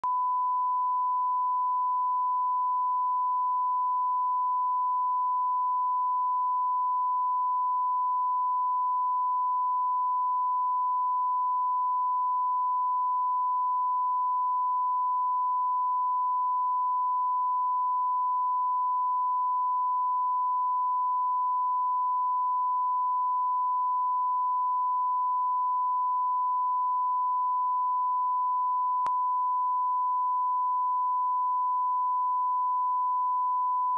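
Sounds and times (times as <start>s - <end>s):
steady sine tone: 0.0s - 33.9s.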